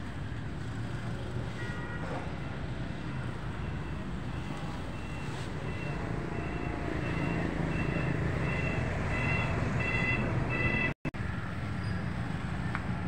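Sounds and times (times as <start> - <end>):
distant traffic: 0.0 - 13.0
wind: 0.0 - 13.0.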